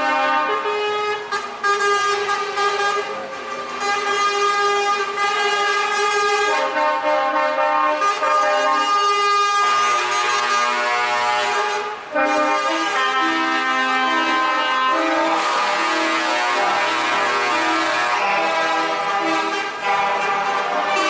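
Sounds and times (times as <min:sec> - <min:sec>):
truck air horns sounding: 0:00.0 - 0:21.0.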